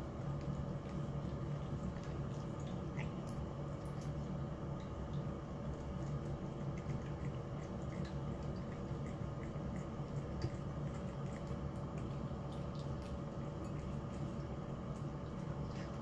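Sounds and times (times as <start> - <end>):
cat chewing and licking: 0.0 - 16.0
steady low hum: 0.0 - 16.0.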